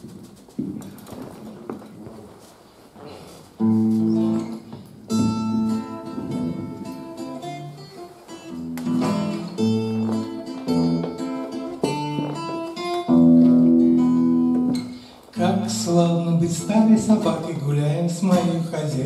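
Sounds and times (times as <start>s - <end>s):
acoustic guitar picking and chords: 3.5s - 19.0s.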